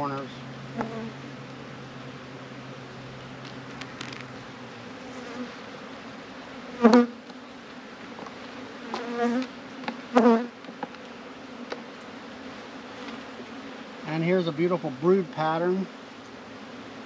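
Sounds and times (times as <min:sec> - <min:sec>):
bee flying close buzz: 0:00.0 - 0:17.0
bees buzzing steady hum: 0:00.0 - 0:17.0.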